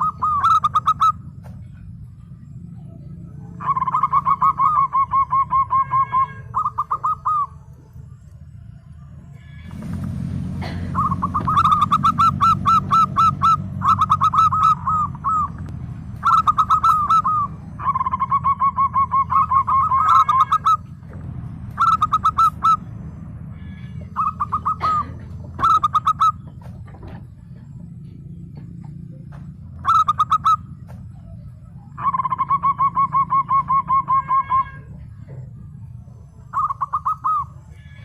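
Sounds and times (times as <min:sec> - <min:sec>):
dove cooing: 0:00.0 - 0:07.9, 0:09.4 - 0:38.0
steady low hum: 0:00.0 - 0:38.0.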